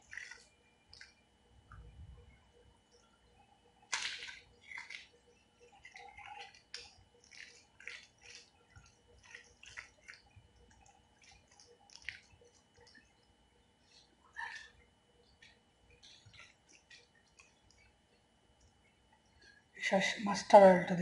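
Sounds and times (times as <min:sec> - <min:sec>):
wet squishing and clicking: 0:00.0 - 0:19.6.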